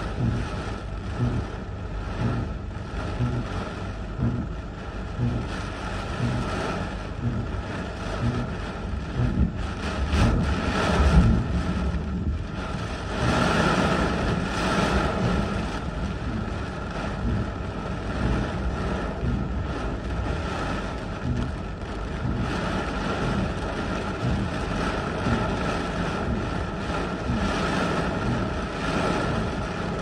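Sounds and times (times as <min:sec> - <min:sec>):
gusting wind: 0:00.0 - 0:30.0
rain beating on windshield: 0:00.0 - 0:30.0.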